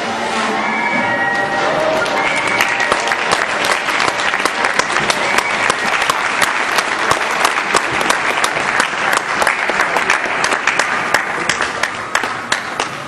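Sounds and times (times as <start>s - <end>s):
audience applauding: 1.8s - 13.0s.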